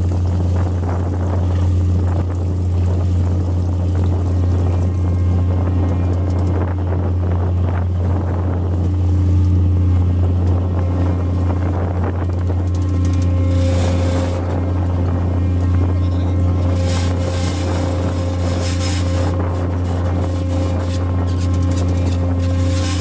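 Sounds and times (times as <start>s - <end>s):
boat engine drone: 0.0s - 23.0s
steady tones: 4.3s - 23.0s.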